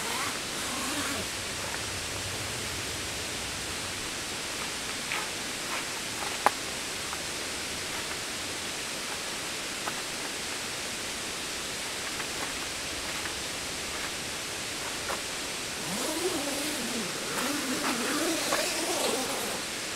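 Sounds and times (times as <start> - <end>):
steady outdoor hiss: 0.0 - 19.9.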